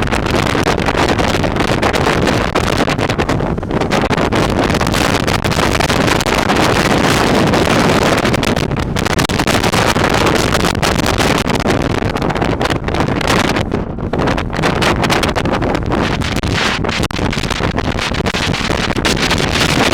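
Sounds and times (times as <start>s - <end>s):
boat engine: 0.0s - 19.9s
rush of water: 0.0s - 19.9s
wind buffeting microphone: 0.0s - 19.9s.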